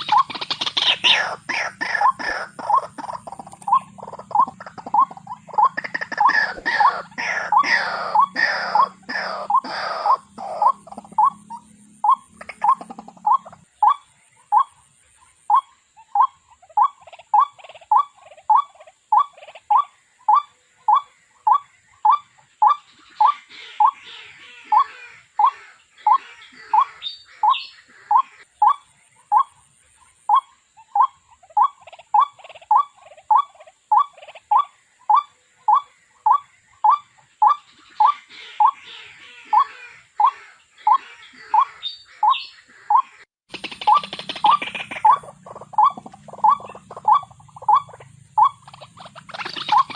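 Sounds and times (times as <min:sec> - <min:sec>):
waterhen calling: 0:00.0 - 0:49.9.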